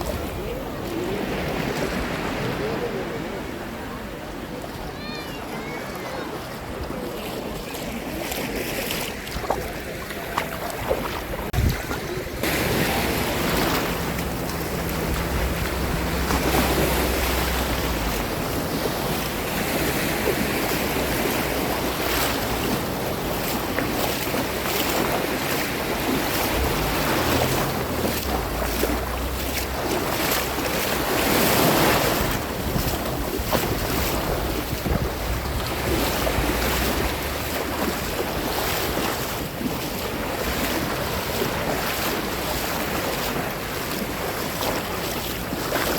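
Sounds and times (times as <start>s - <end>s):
sea waves breaking: 0.0s - 45.9s
wind buffeting microphone: 5.8s - 45.9s.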